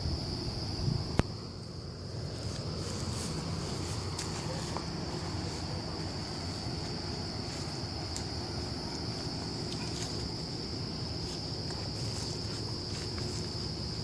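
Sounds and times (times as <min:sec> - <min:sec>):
night insects chorus: 0:00.0 - 0:14.0.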